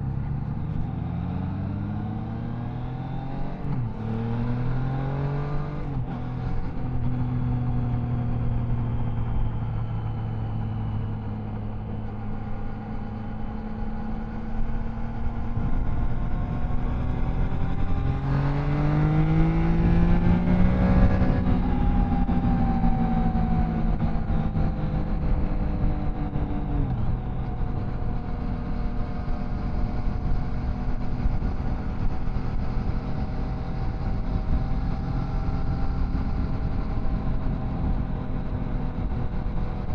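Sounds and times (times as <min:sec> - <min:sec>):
motorcycle engine at road speed: 0:00.0 - 0:39.9.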